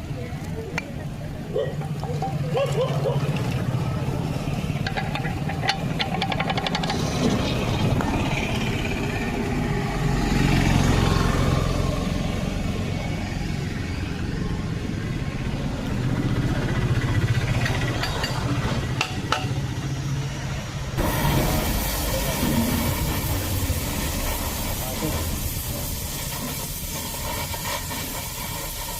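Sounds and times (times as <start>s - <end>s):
engine humming: 0.0s - 28.9s.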